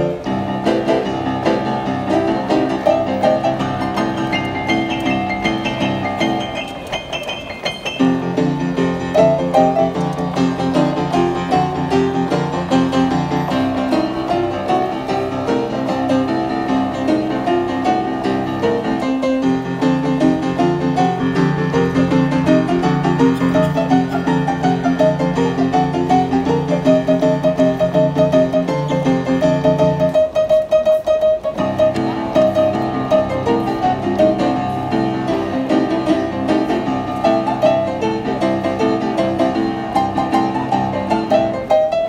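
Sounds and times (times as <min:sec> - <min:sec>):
boogie-woogie piano: 0:00.0 - 0:42.0.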